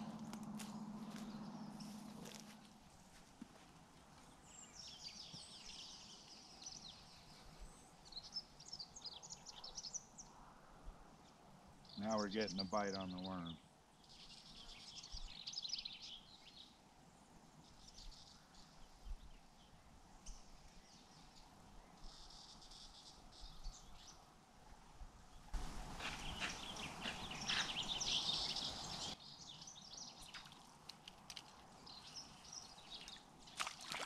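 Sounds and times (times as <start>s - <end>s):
small birds chirping: 4.2s - 10.4s, 11.2s - 24.3s, 25.3s - 34.0s.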